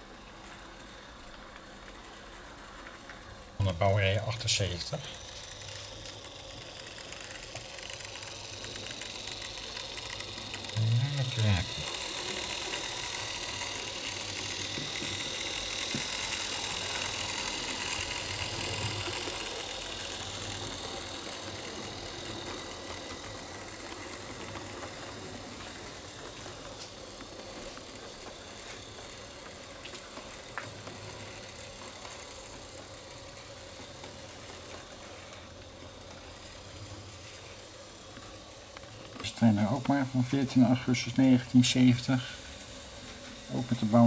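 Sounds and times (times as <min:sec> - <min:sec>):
model train whirring on track: 0:00.0 - 0:44.0.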